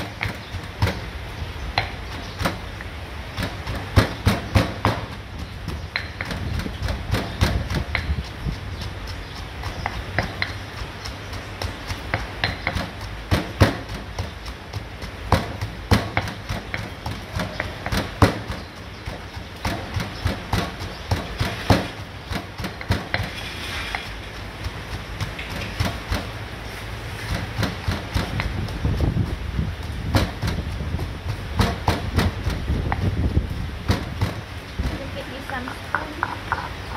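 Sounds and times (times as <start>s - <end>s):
stone pestle pounding in mortar: 0.0s - 2.7s, 3.3s - 26.5s, 27.2s - 36.9s.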